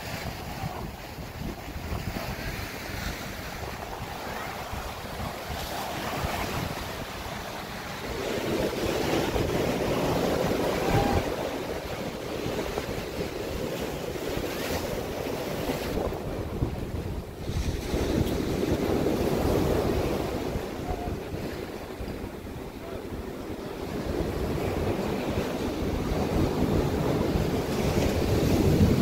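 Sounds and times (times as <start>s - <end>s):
ocean surf breaking on beach: 0.0s - 29.0s
wind buffeting microphone: 0.0s - 29.0s.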